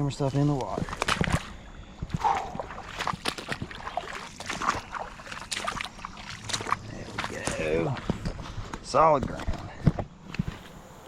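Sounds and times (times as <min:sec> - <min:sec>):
footsteps wading through water: 0:00.0 - 0:10.8.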